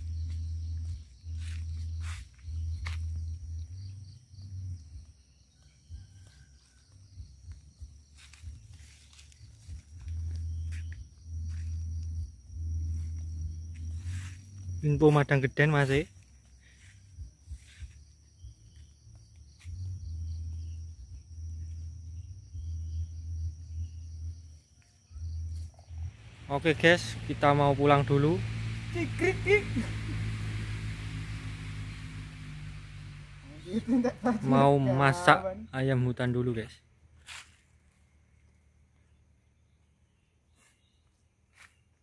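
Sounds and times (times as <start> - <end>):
faint low hum: 0.0 - 35.9
insects droning: 0.0 - 42.0.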